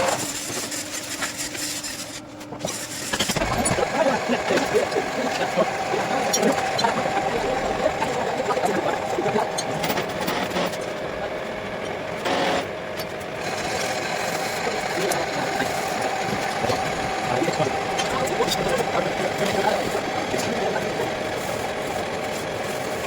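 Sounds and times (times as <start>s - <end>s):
machine tool humming: 0.0s - 23.0s
scattered clicks: 3.1s - 23.0s.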